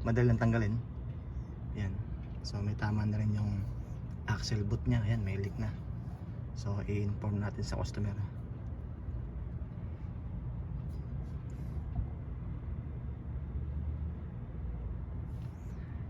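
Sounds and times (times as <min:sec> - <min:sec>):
vehicle noise rumble: 0:00.0 - 0:16.0.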